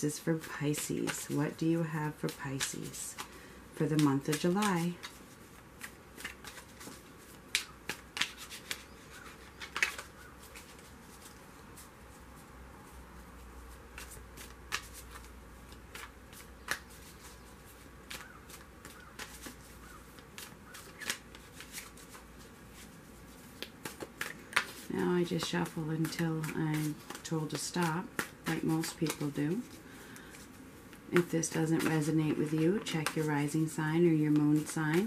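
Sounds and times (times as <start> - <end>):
cards being shuffled: 0.1 - 11.9, 13.3 - 35.0.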